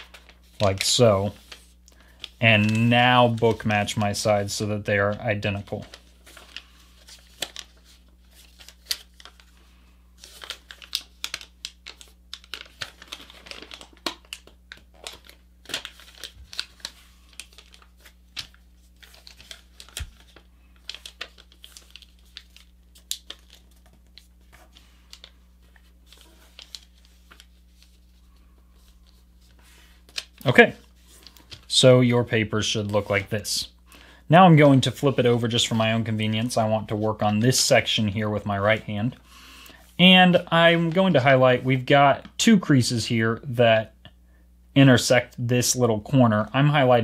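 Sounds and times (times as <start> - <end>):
paper crinkling and crackling: 0.0 - 33.5, 34.5 - 39.2, 40.0 - 42.4
faint steady low hum: 0.0 - 47.0.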